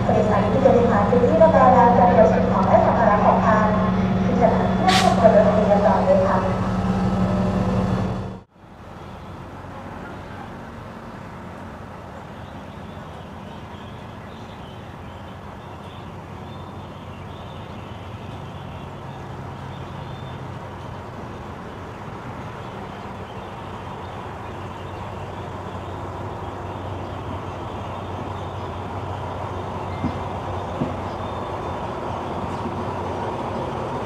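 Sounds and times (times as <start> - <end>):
locomotive engine drone: 0.0 - 34.0
train rolling noise: 0.0 - 34.0.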